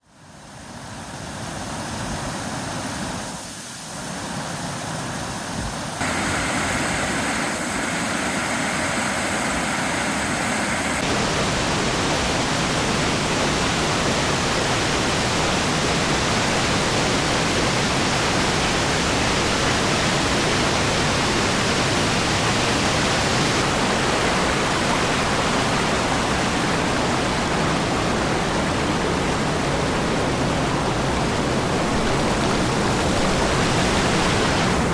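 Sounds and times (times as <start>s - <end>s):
waterfall rushing: 3.2s - 34.9s.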